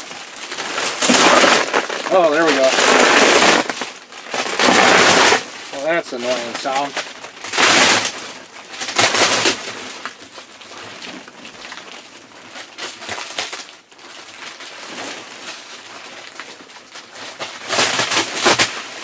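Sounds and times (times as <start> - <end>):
plastic wrapping crinkling and tearing: 0.0 - 19.0.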